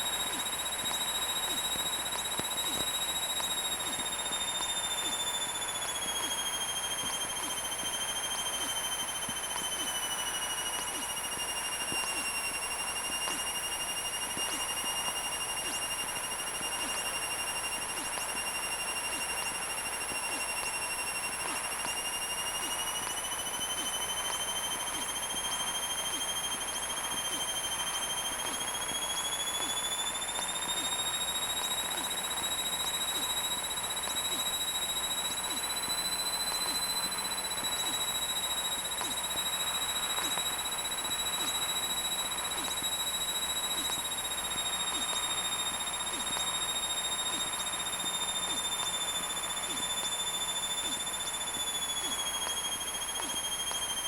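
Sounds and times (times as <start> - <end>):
high whine: 0.0 - 54.0.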